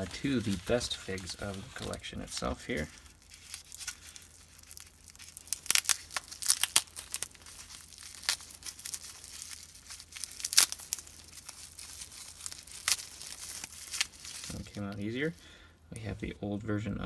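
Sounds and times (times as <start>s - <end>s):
plastic wrapping crinkling: 0.0s - 16.3s.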